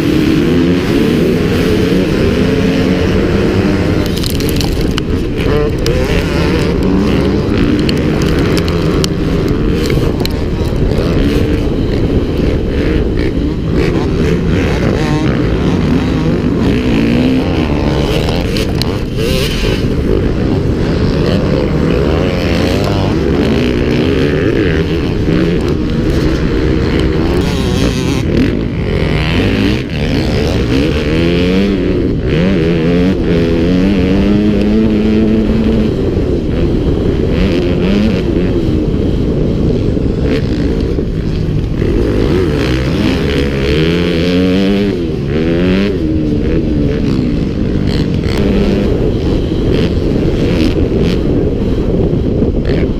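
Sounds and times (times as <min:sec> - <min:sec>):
motocross engine revving: 0:00.0 - 0:52.9.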